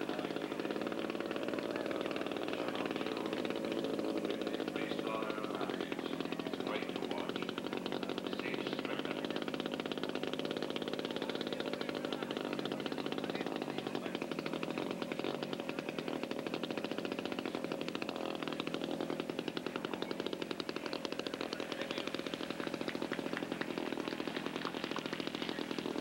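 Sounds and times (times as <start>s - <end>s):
model airplane engine buzzing: 0.0s - 26.0s.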